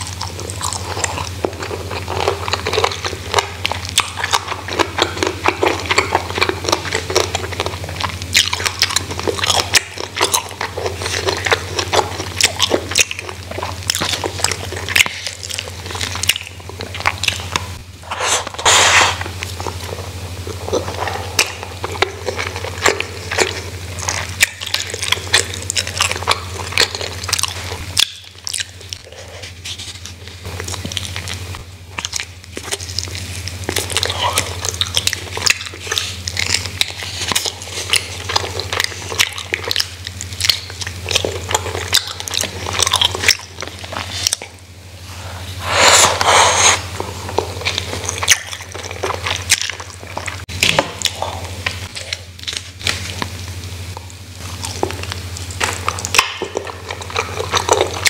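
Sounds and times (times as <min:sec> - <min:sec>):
person chewing and biting food: 0:00.0 - 0:58.0
steady low hum: 0:00.0 - 0:58.0.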